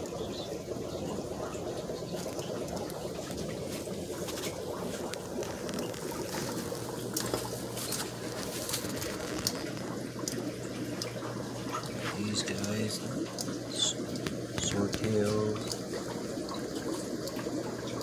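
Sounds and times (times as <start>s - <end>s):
aquarium water bubbling: 0.0s - 18.0s
low steady hum: 0.0s - 18.0s.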